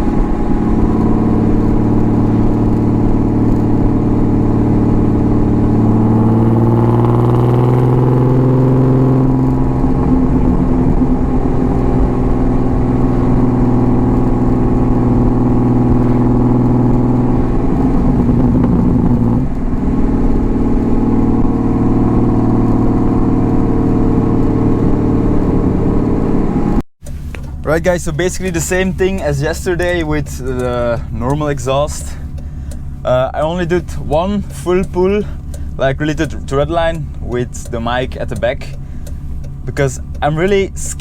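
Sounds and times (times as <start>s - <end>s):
loud car exhaust: 0.0s - 41.0s.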